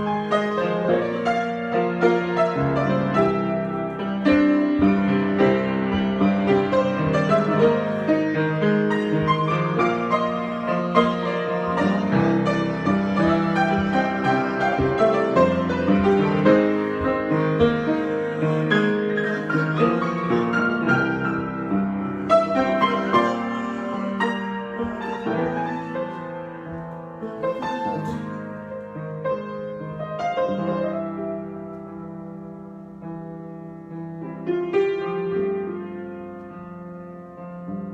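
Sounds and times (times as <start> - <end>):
solo piano: 0.0 - 37.9.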